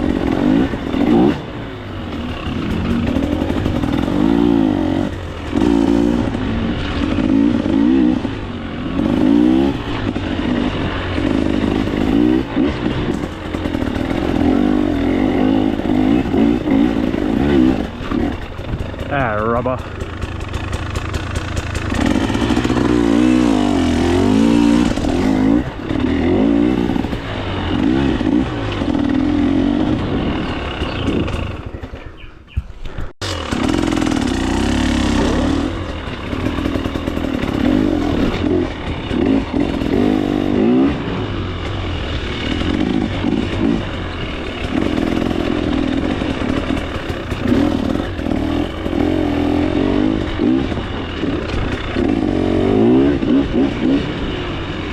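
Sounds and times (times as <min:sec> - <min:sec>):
two-stroke engine revving: 0:00.0 - 0:32.3, 0:33.1 - 0:54.9.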